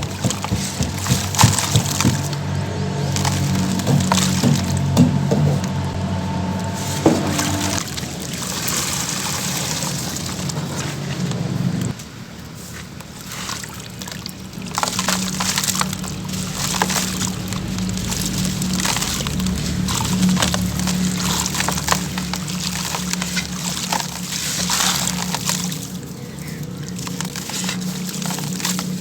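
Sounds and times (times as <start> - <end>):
charcoal pouring: 0.0 - 29.0.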